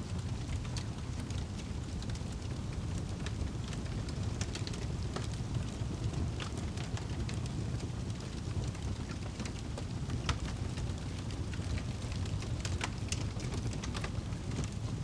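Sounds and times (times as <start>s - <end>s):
fire low rumble: 0.0s - 15.0s
wood crackling and popping: 0.1s - 15.0s.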